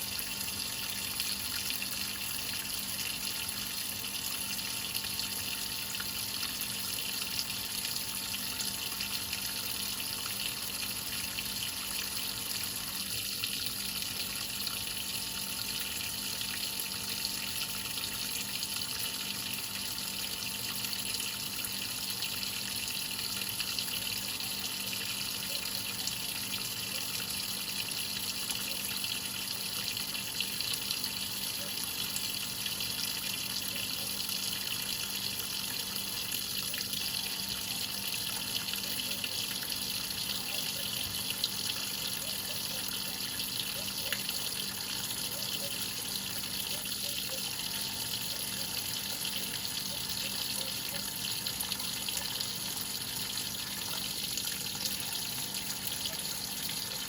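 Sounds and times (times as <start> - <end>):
water pouring into washing machine: 0.0 - 57.0.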